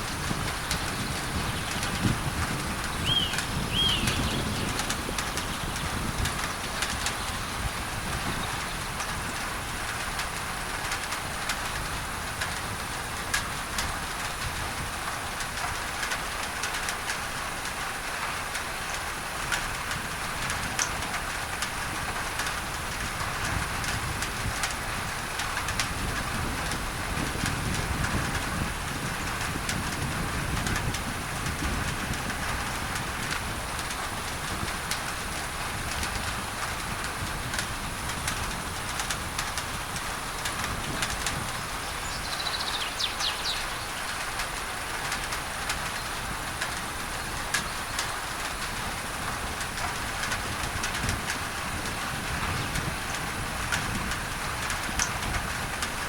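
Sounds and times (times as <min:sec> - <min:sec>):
pink noise hiss: 0:00.0 - 0:56.0
rain on a tin roof: 0:00.0 - 0:56.0.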